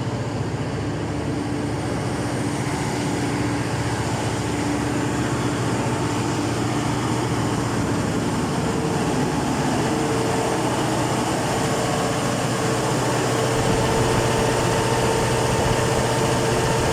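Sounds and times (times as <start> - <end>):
diesel engine drone: 0.0 - 16.9.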